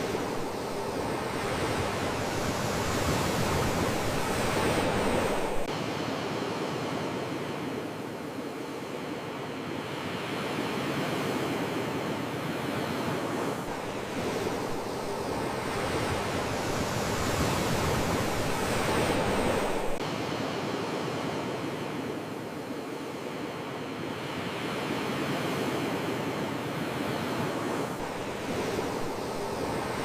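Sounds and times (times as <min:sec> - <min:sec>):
sea waves washing onto shore: 0:00.0 - 0:08.7, 0:10.2 - 0:23.0, 0:24.3 - 0:30.0.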